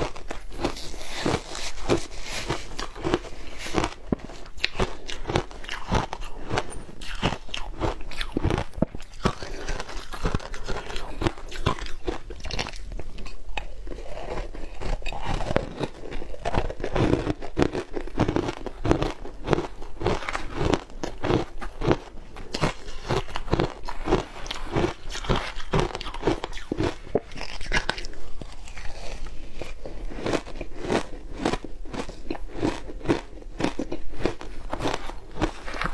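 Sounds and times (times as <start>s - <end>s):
crunching and chewing ice: 0.0s - 35.9s.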